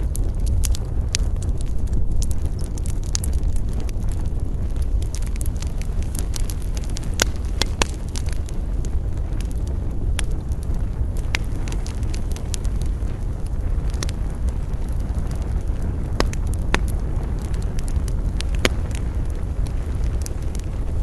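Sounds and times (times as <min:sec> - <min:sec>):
campfire wood crackling: 0:00.0 - 0:21.0
low rumble of fire: 0:00.0 - 0:21.0.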